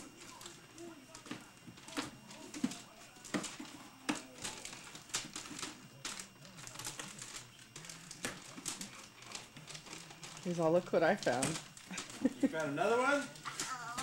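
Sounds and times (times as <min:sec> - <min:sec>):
packaging crinkling and tapping: 0:00.0 - 0:14.0.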